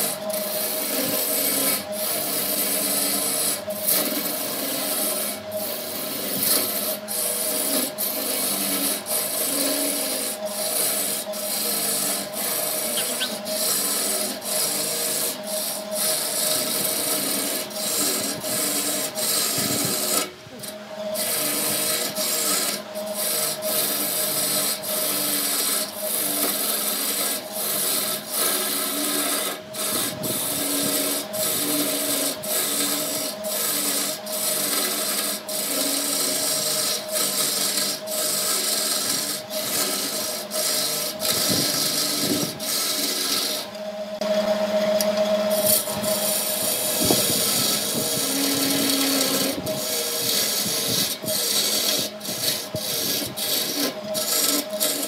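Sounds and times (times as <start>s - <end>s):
chisel rasping on wood: 0.0s - 43.8s, 45.5s - 55.0s
lathe motor humming: 0.0s - 55.0s.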